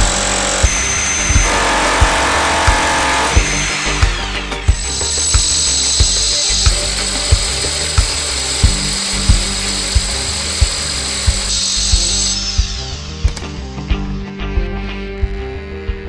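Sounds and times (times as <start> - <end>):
rotary hammer drilling: 0.0 - 13.5
background music with steady beat: 0.0 - 16.0.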